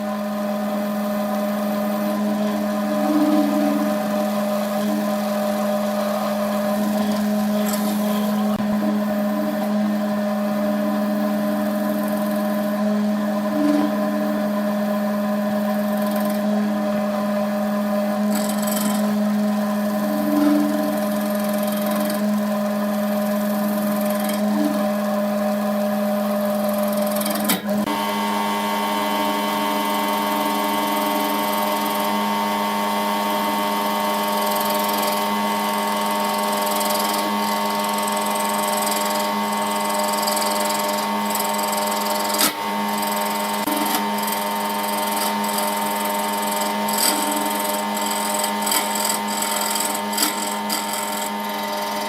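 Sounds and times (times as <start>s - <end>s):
wood lathe motor hum: 0.0s - 52.0s.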